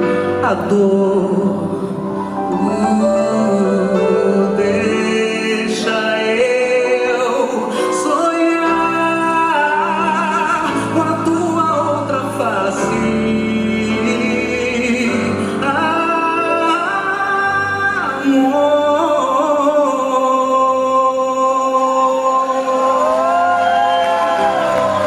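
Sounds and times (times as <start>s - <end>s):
person singing long held notes: 0.0s - 25.0s.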